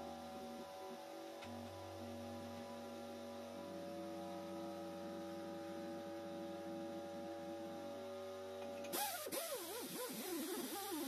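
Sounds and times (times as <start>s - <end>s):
steady hum with held tones: 0.0s - 11.0s.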